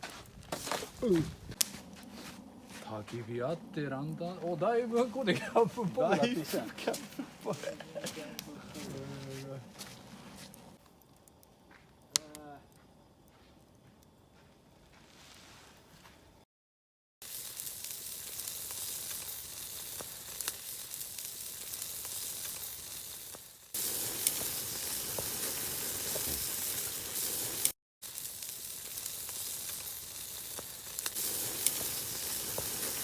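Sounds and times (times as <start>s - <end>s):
food sizzling over campfire: 0.0s - 15.9s, 17.2s - 33.0s.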